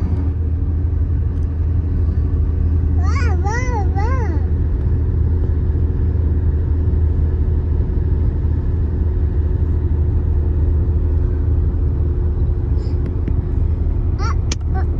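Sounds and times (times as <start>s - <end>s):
low mechanical drone: 0.0s - 14.9s.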